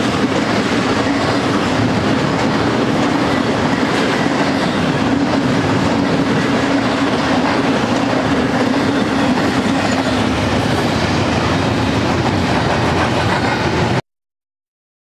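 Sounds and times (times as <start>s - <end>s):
freight cars rolling on rails: 0.0s - 14.0s.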